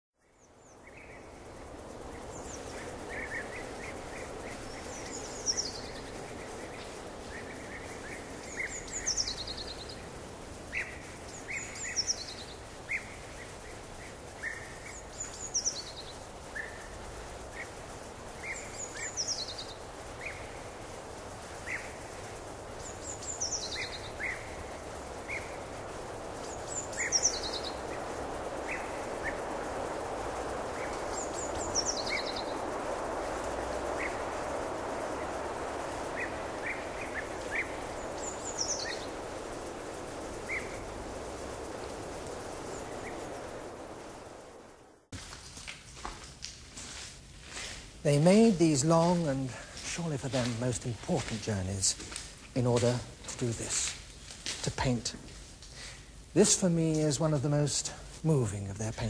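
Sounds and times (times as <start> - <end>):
birds chirping: 0.2 - 45.1, 48.1 - 59.0
steady background noise: 0.3 - 59.0.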